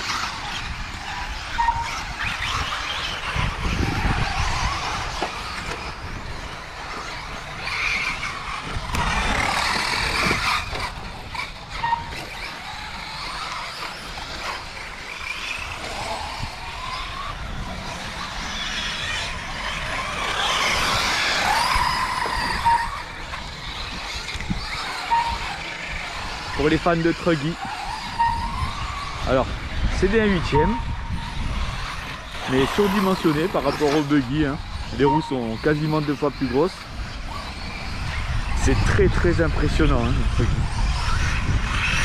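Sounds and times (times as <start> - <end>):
rc car engines whining: 0.0 - 42.0.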